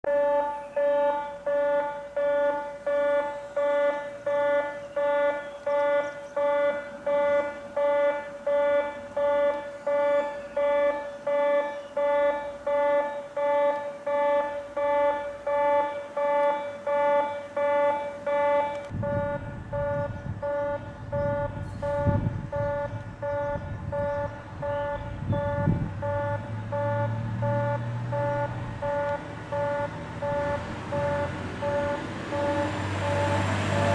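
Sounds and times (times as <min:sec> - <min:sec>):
pulsing buzzing warning tone: 0:00.1 - 0:33.9.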